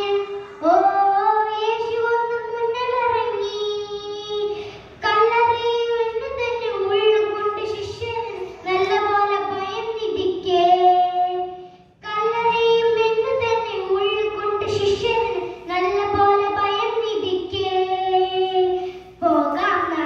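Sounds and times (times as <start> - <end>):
girl singing into a microphone: 0.0 - 20.0.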